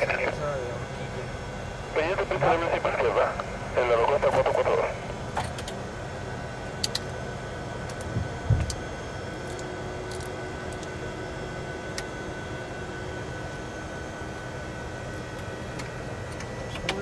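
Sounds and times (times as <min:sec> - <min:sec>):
engine and air-conditioning hum: 0:00.0 - 0:17.0.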